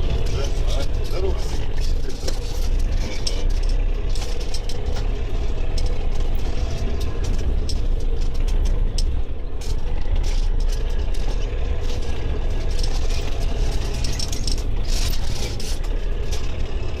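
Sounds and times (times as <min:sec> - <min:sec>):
machine engine running: 0:00.0 - 0:17.0
short clicks and rattles: 0:00.0 - 0:17.0.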